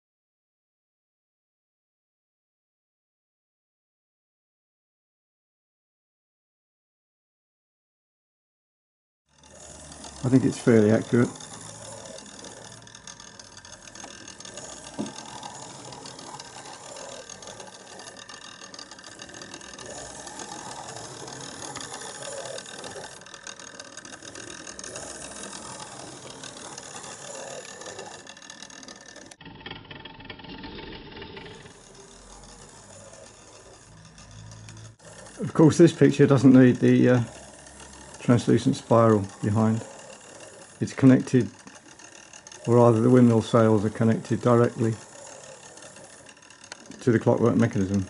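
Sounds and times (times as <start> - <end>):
clockwork gears clicking: 9.3 - 48.0.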